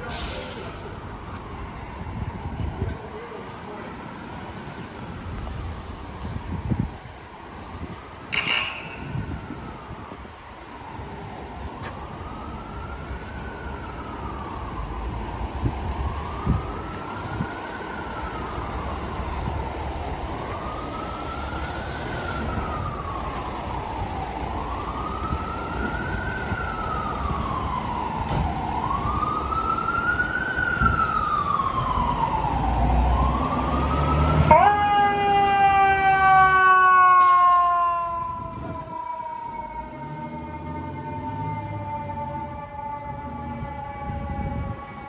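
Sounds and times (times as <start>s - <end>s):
fire truck siren wailing: 0.0s - 45.0s.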